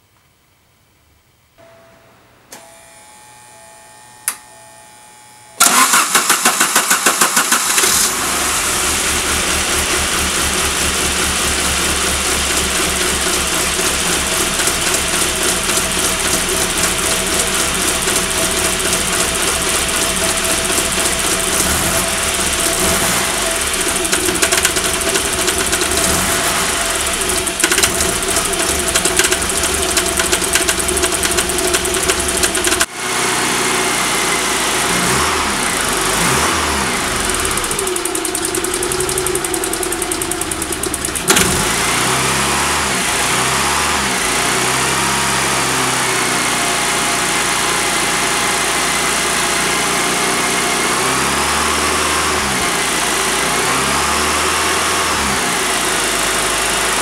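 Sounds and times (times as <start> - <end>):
car engine cranking and starting: 5.6 - 57.0.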